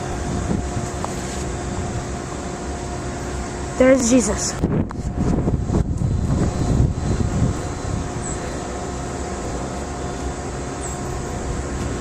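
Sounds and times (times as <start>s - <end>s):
wind buffeting microphone: 0.0s - 2.4s, 3.5s - 12.0s.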